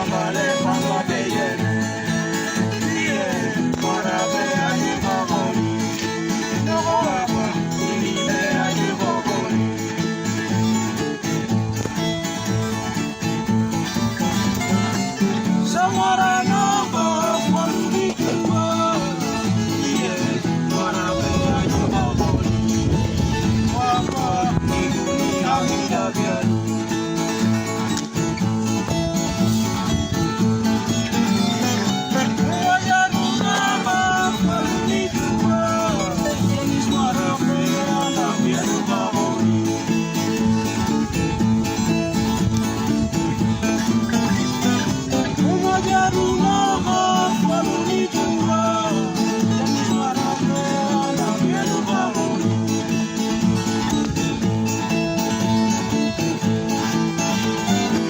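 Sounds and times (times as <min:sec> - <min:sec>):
acoustic guitars strumming: 0:00.0 - 0:58.0
voices singing together: 0:00.0 - 0:58.0.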